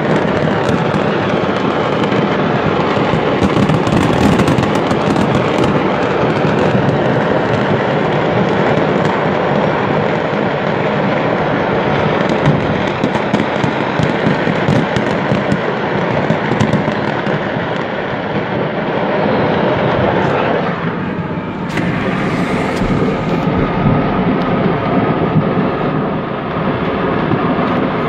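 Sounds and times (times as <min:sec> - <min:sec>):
fireworks crackling and banging: 0:00.0 - 0:28.0.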